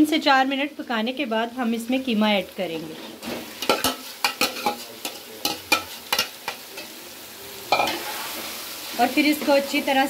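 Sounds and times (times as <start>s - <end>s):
food sizzling in pan: 0.0s - 10.0s.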